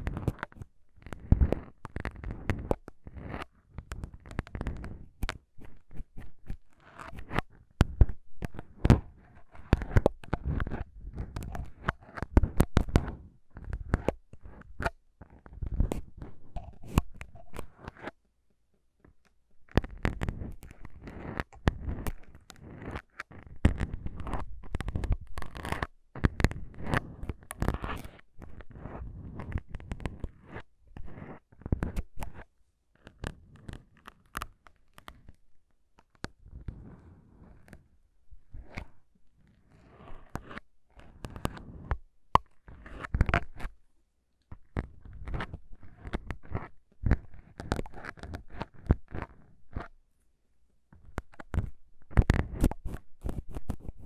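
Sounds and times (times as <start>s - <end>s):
scratchy rubbing: 0.0s - 18.2s, 19.6s - 35.4s, 36.1s - 43.8s, 44.5s - 50.0s, 51.0s - 54.0s.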